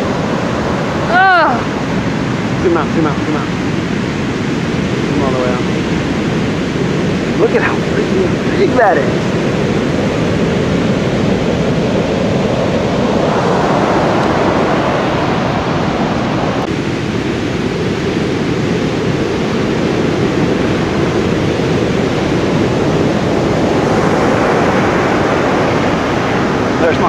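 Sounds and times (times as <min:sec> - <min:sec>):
ocean waves breaking: 0:00.0 - 0:27.0
wind noise on microphone: 0:00.0 - 0:27.0.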